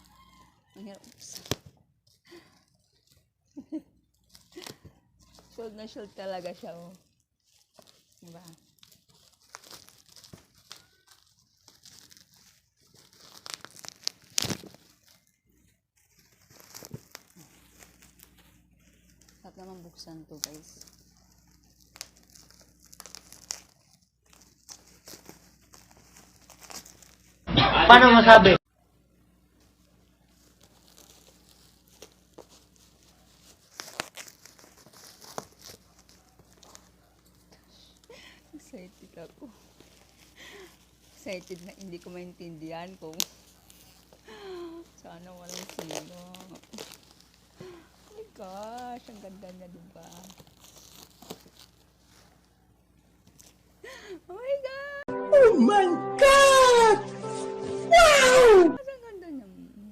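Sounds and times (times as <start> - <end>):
packaging crinkling and tearing: 0.0 - 27.4, 29.7 - 54.0.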